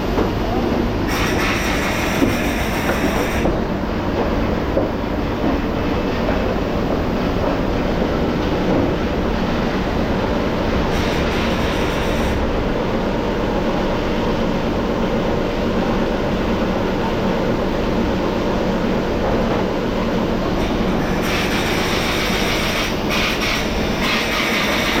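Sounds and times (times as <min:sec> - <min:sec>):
factory machinery rumbling: 0:00.0 - 0:25.0.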